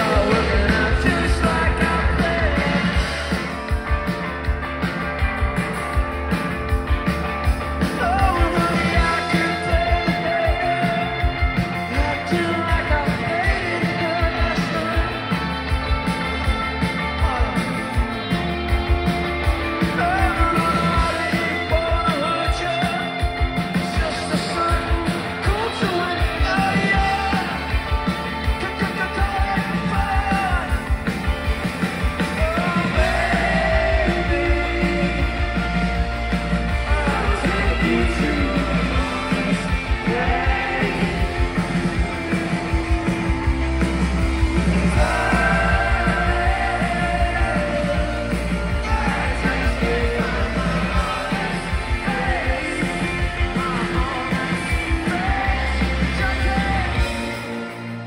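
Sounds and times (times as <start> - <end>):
person singing: 0.0 - 3.5, 7.8 - 19.0, 19.6 - 31.0, 32.2 - 43.4, 44.0 - 57.9
bass guitar: 0.0 - 58.0
drums: 0.0 - 58.0
electric guitars: 0.0 - 58.0
rock band playing live: 0.0 - 58.0.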